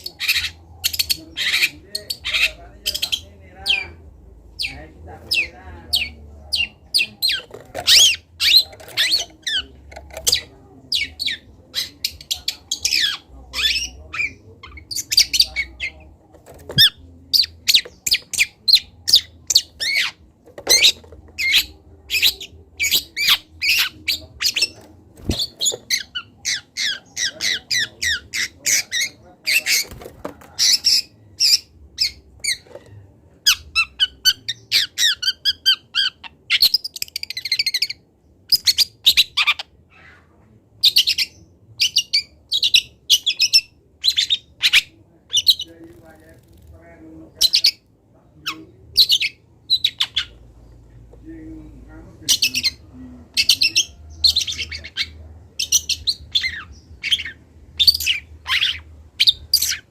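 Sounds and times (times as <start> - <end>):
bird chirping and chattering: 0.0 - 40.1, 40.8 - 59.9.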